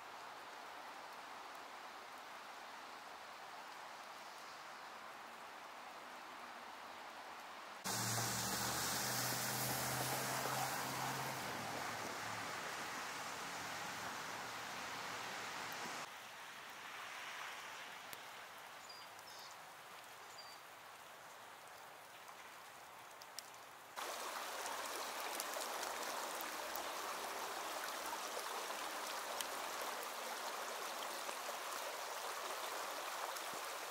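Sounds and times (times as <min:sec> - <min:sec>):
faint steady hiss: 0:00.0 - 0:33.9
small creek flowing: 0:00.0 - 0:33.9.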